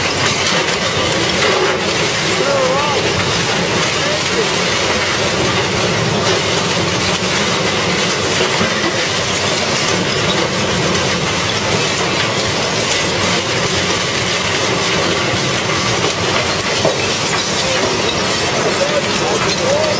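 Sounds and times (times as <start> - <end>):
metal shredder grinding: 0.0 - 19.9.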